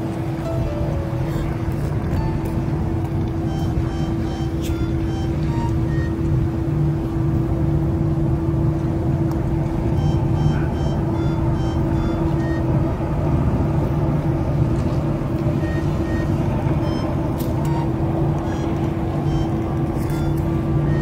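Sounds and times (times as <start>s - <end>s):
low engine-like drone: 0.0s - 21.0s.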